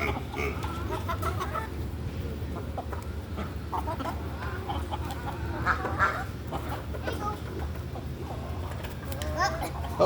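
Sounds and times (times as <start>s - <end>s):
chickens clucking: 0.0s - 10.0s
low steady rumble: 0.0s - 10.0s.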